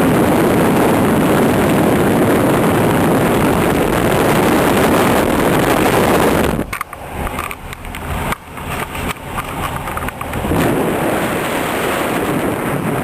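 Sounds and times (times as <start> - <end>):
car cabin engine and road noise: 0.0 - 13.0.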